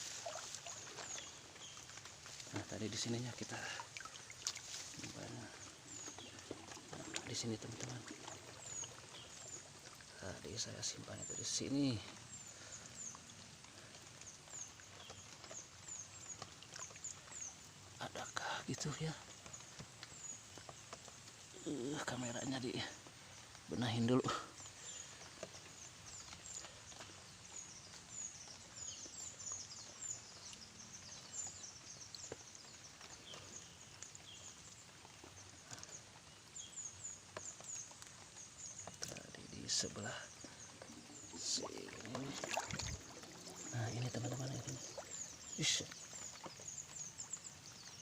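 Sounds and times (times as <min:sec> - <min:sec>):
low outdoor hiss: 0:00.0 - 0:48.0.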